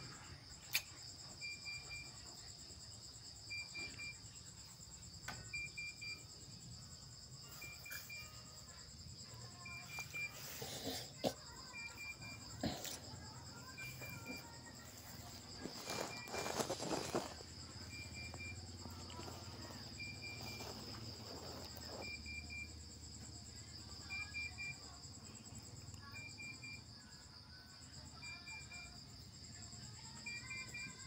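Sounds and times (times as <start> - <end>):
insects chirping drone: 0.0 - 31.0.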